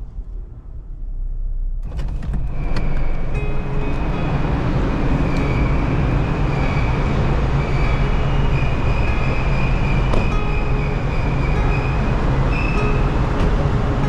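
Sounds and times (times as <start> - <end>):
ship engine and ventilation rumble: 0.0 - 14.0.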